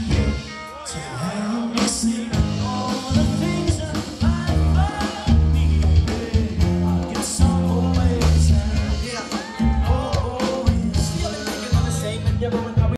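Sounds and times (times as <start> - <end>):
bass guitar: 0.0 - 12.9
electric guitar: 0.0 - 12.9
man singing: 0.0 - 12.9.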